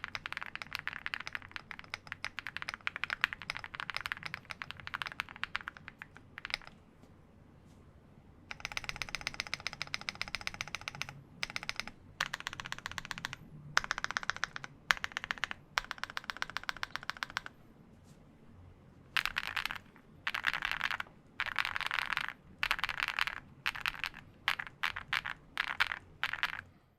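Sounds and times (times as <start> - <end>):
mechanical keyboard typing: 0.0 - 6.8, 8.5 - 17.6, 19.2 - 26.7.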